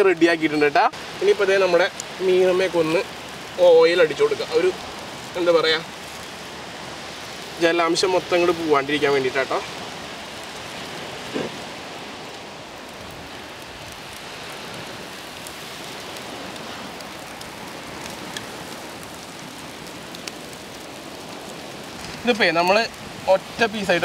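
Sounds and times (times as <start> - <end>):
fire crackling: 0.0 - 24.0
fish sizzling on a grill: 0.0 - 24.0.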